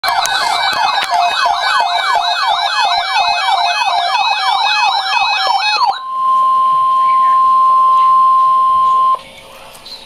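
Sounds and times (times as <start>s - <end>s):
electronic yelp siren: 0.0s - 9.2s.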